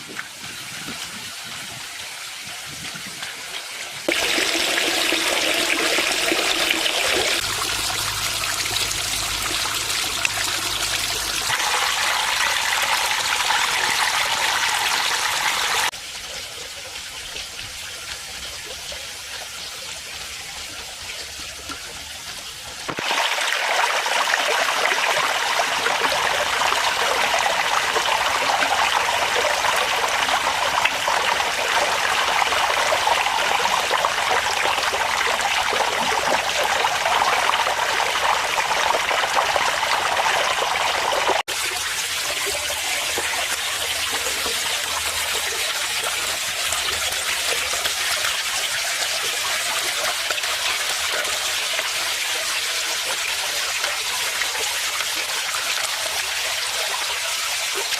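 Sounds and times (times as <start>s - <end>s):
waterfall splashing into a pond: 0.0s - 57.9s.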